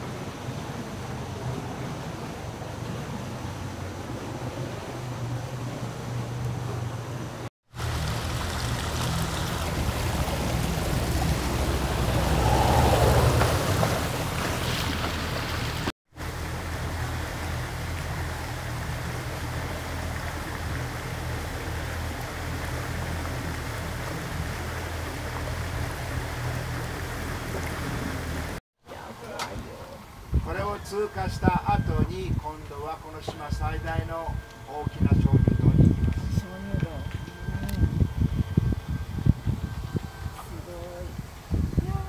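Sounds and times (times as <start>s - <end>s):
motorboat engine: 0.0s - 42.0s
water rushing past hull: 0.0s - 42.0s.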